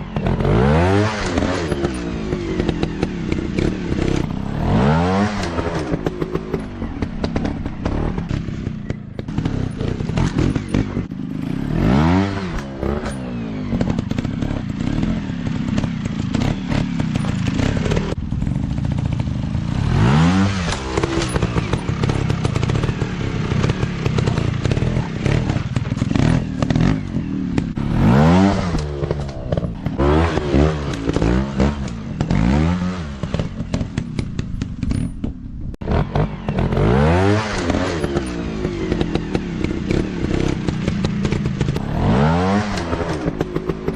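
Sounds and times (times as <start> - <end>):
dirt bike engines revving: 0.0 - 35.1, 35.8 - 43.9
sharp knocks and clatter: 0.1 - 11.6, 12.2 - 18.2, 20.4 - 43.9.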